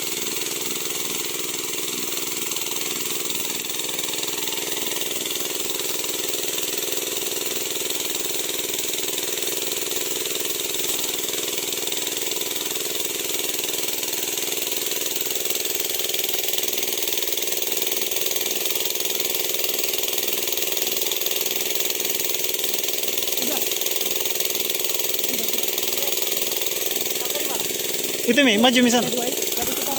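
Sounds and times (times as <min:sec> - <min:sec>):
sprayer engine running: 0:00.0 - 0:29.9.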